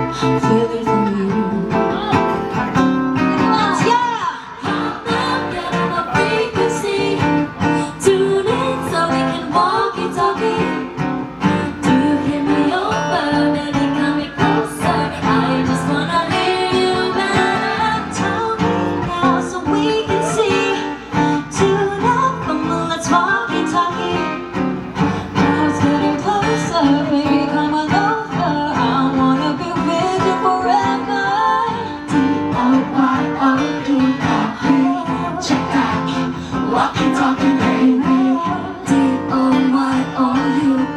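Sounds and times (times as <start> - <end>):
person singing: 0.0 - 40.9
strummed acoustic guitar: 0.0 - 40.9.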